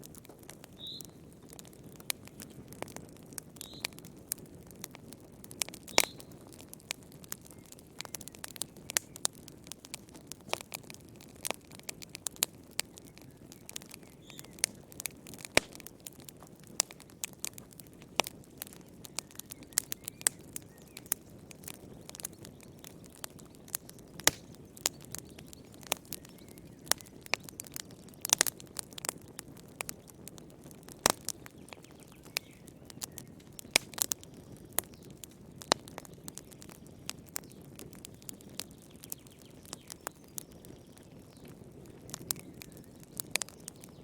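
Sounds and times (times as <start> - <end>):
firewood crackling and popping: 0.0 - 44.0.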